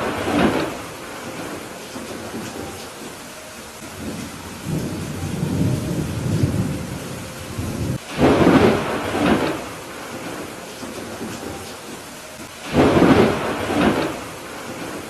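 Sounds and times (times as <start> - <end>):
sharp thunderclap: 0.0 - 2.7, 3.9 - 12.0, 12.6 - 15.0
steady rain falling: 0.0 - 15.0
thunder rumbling: 0.0 - 15.0.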